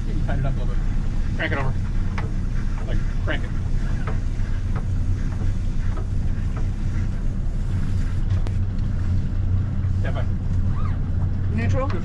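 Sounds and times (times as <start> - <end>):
outboard motors running: 0.0 - 12.0
wind buffeting microphone: 0.0 - 12.0.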